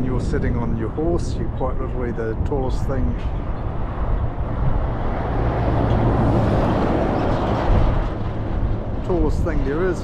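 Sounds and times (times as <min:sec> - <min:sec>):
vehicle road and engine noise: 0:00.0 - 0:10.0.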